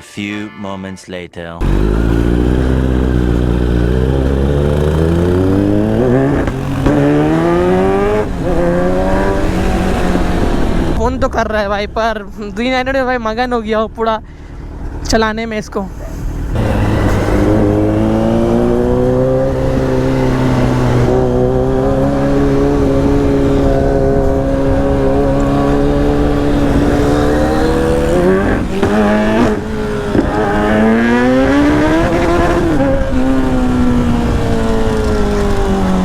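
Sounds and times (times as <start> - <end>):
motorcycle engine revving: 1.6 - 11.1, 16.2 - 36.0.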